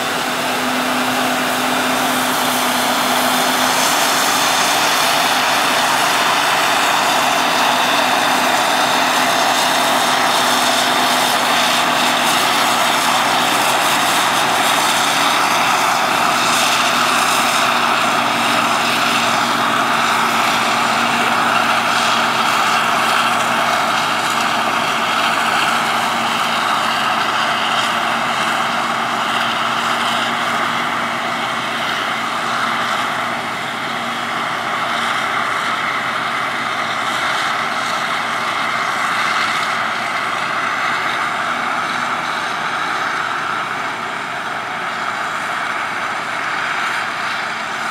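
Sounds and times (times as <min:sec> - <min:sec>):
forage harvester droning: 0:00.0 - 0:47.9.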